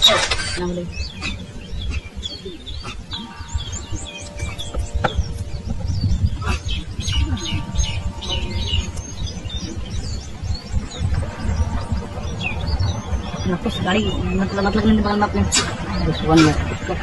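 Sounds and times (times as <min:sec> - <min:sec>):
birds chirping: 0:00.0 - 0:17.0
constant low rumble: 0:00.0 - 0:17.0.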